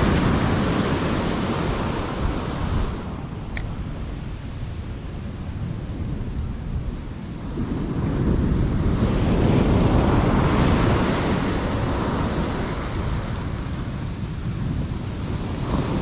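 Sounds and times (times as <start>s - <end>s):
wave washing on sand: 0.0s - 16.0s
wind buffeting microphone: 0.0s - 16.0s.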